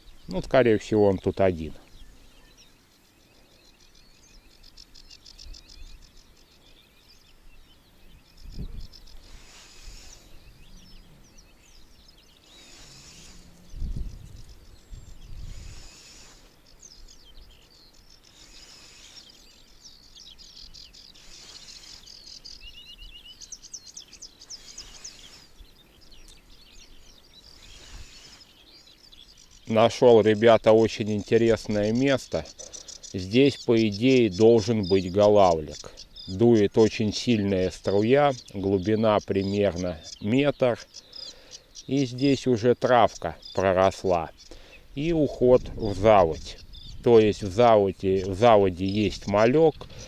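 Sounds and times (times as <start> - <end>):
songbirds singing: 0.0 - 50.0.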